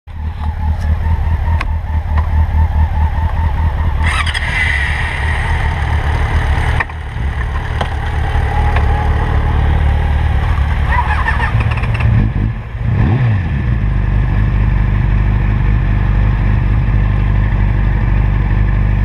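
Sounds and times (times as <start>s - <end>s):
motorcycle engine idling: 0.1s - 12.9s, 13.6s - 19.0s
motorcycle pulling away: 0.3s - 19.0s.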